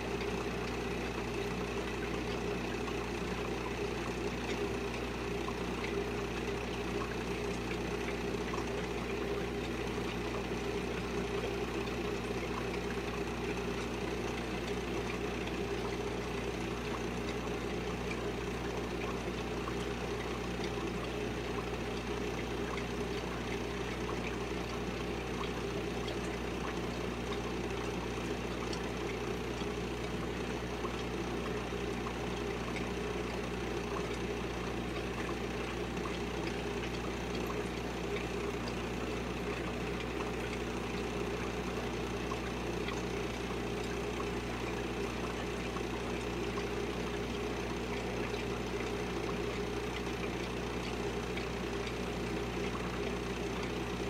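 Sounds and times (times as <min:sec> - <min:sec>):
aquarium pump humming: 0:00.0 - 0:54.0.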